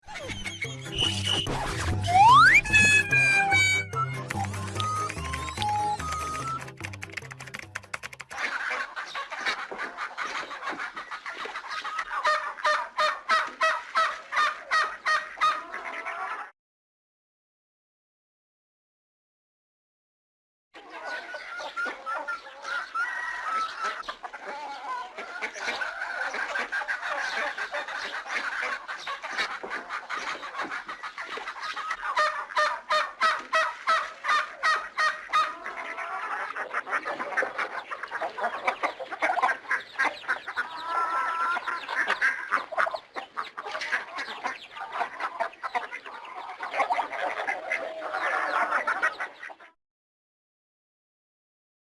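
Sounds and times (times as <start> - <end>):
chickens clucking: 0.0 - 16.5, 20.8 - 49.8
geese honking: 0.4 - 6.6, 8.4 - 16.5, 20.8 - 49.7.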